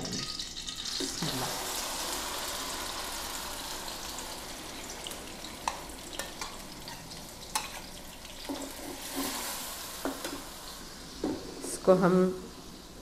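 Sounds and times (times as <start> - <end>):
onion sizzling in hot fat: 0.0 - 13.0.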